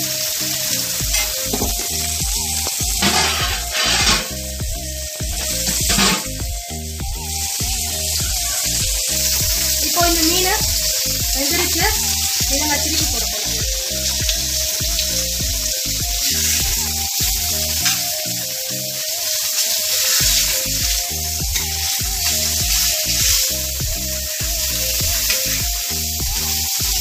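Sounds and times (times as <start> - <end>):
background music with a beat: 0.0 - 27.0
fish sizzling in oil: 0.0 - 27.0.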